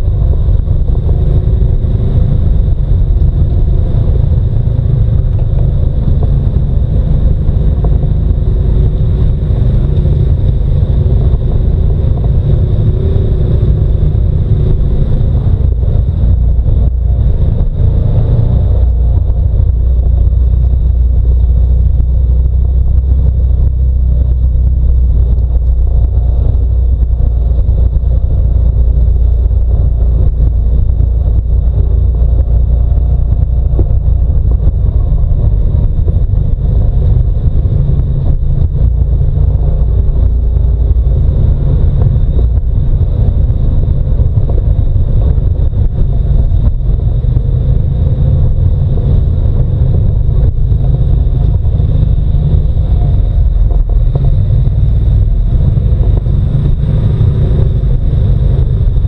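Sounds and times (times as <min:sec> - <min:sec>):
deep heavy rumble: 0:00.0 - 0:59.0
engine drone: 0:00.0 - 0:59.0.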